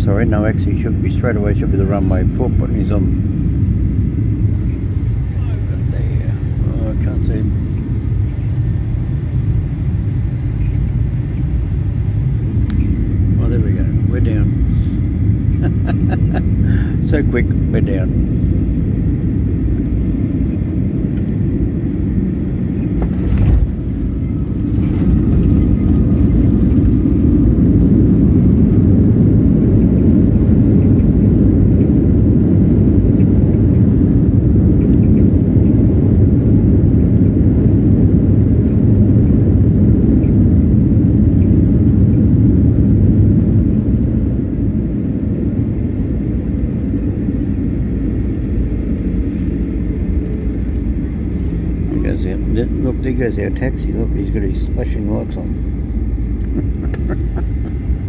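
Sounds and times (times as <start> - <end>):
jet engines and wheels rumbling: 0.0 - 58.0.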